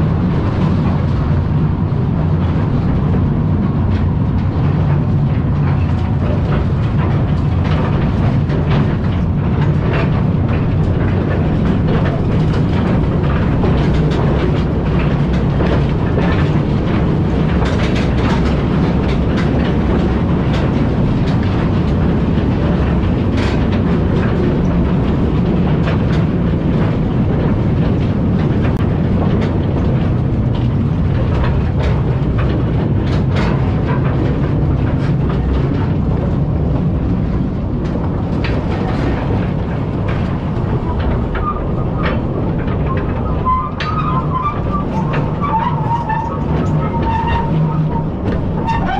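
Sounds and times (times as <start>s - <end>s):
mine train rumbling on rails: 0.0s - 48.9s
wheels clacking on track: 0.0s - 48.9s.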